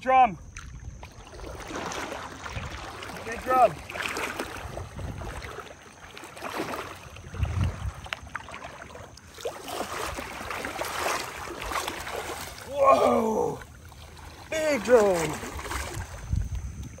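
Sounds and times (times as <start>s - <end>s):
shallow water sloshing and splashing: 0.2s - 17.0s.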